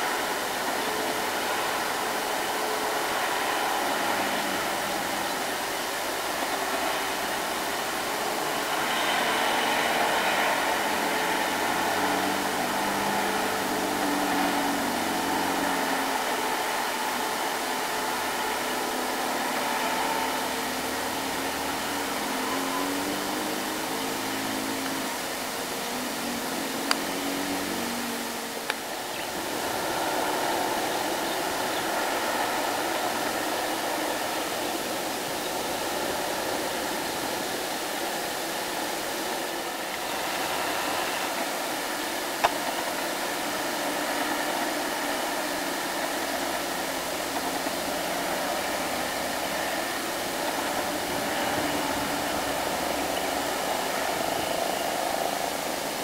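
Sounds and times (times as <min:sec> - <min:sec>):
diesel truck engines passing: 0:00.0 - 0:56.0
hissing road noise: 0:00.0 - 0:56.0.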